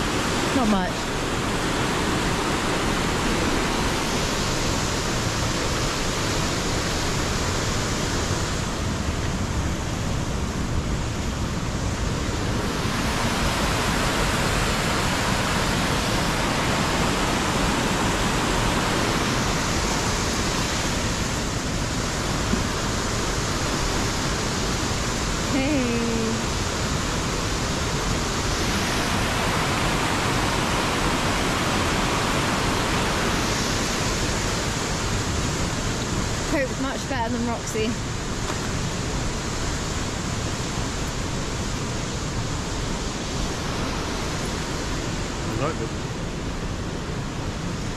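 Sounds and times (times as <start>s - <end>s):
waterfall and rapids rushing: 0.0s - 47.9s.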